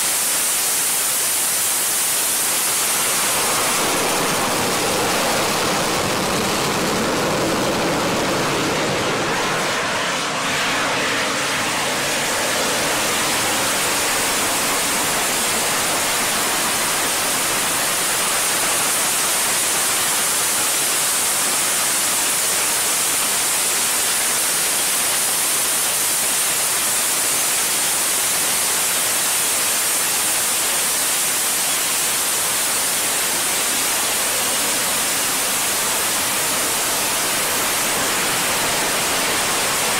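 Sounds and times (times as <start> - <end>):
jet engine hovering roar: 0.0 - 39.9.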